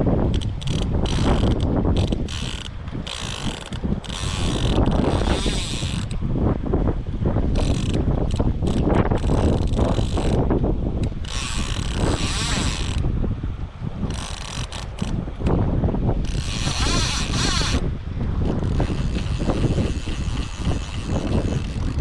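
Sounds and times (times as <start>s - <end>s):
wind buffeting microphone: 0.0s - 22.0s
fishing reel ratchet clicking: 0.3s - 6.2s, 7.6s - 10.4s, 11.0s - 13.0s, 14.0s - 15.2s, 16.2s - 22.0s.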